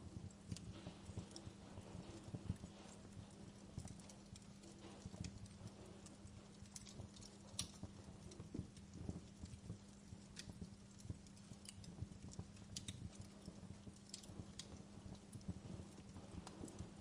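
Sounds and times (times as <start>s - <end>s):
faint low hum: 0.0s - 17.0s
wood fire crackling: 0.0s - 17.0s.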